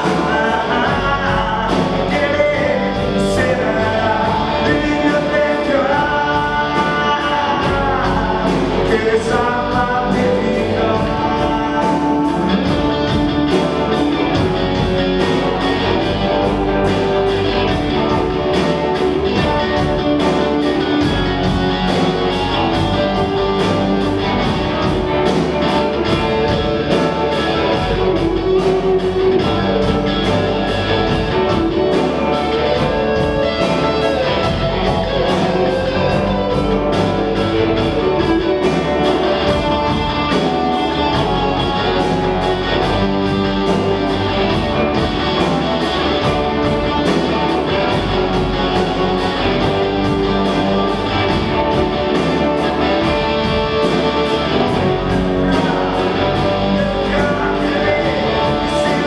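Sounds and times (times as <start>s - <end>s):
live rock band playing: 0.0s - 59.0s
steady drumbeat: 0.0s - 59.0s.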